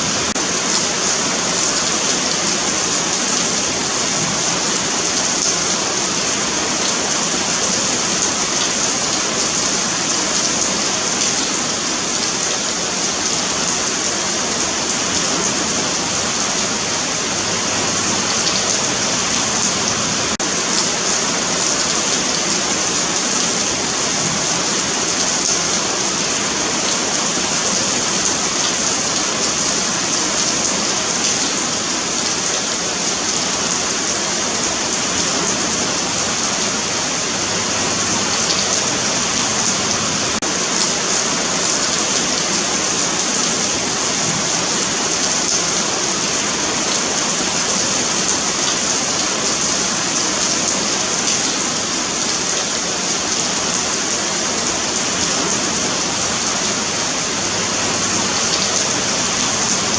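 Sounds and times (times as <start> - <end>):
rain on pavement: 0.0 - 59.9.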